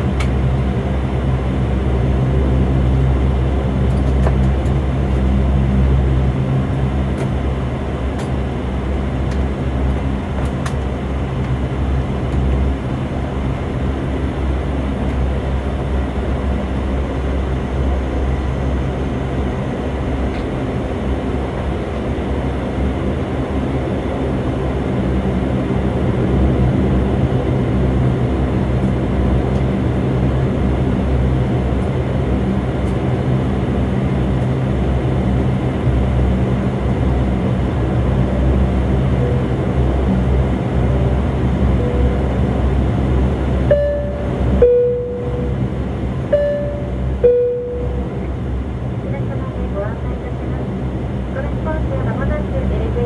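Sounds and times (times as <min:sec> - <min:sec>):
turboprop engine and propeller drone: 0:00.0 - 0:53.0.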